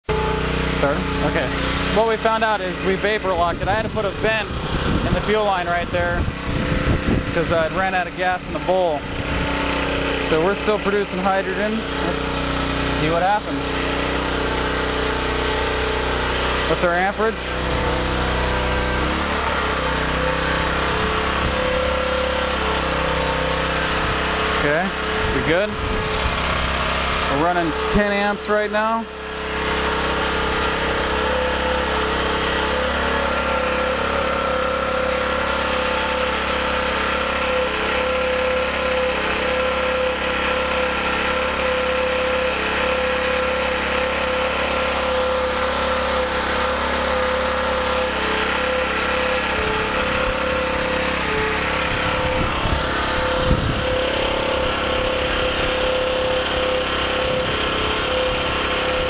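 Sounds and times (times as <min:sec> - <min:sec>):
small generator engine running: 0:00.0 - 0:59.0.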